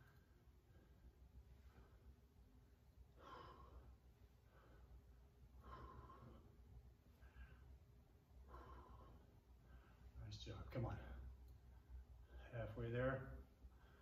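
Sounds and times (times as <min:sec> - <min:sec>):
man breathing heavily: 0:00.0 - 0:10.2, 0:10.9 - 0:12.8, 0:13.4 - 0:14.0.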